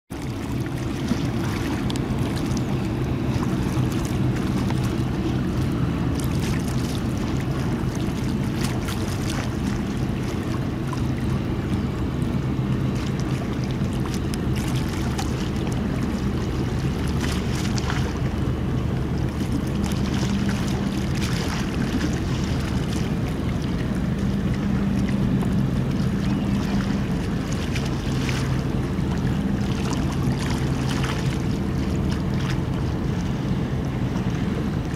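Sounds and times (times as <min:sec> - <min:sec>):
diesel engines droning: 0:00.1 - 0:34.9
water noise: 0:00.1 - 0:34.9.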